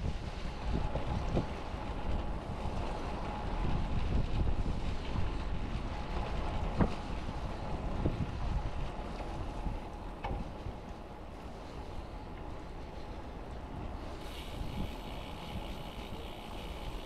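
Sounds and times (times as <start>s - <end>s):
tyre and road rumble: 0.0s - 17.0s
wind buffeting microphone: 0.0s - 17.0s.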